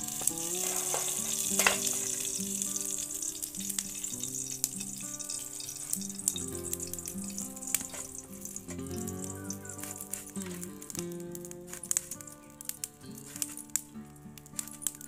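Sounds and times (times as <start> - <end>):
instrumental background music: 0.0 - 15.0
oil sizzling: 0.0 - 15.0.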